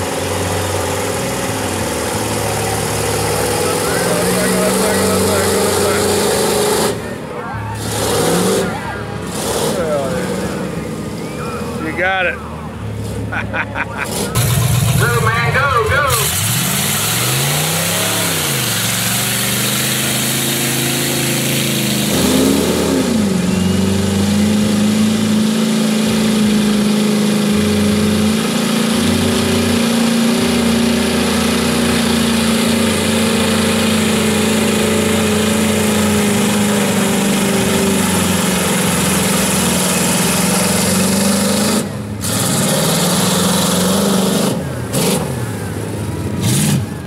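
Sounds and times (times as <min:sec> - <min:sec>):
pickup truck engine revving: 0:00.0 - 0:47.0.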